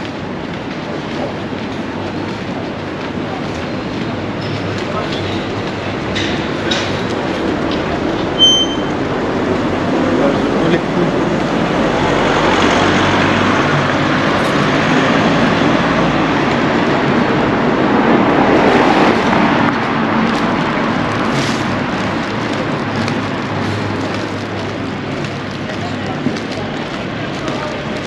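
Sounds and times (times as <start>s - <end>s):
vehicle engine hum: 0.0s - 28.0s.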